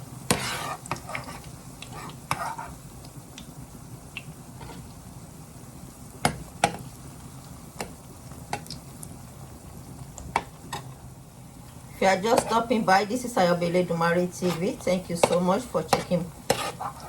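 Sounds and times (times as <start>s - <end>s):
plantain sizzling in oil: 0.0s - 17.0s.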